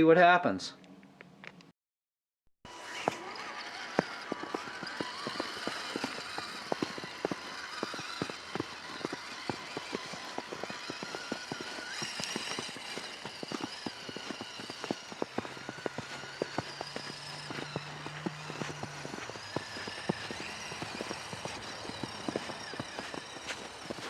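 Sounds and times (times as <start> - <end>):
crunching in snow: 2.7 - 24.0.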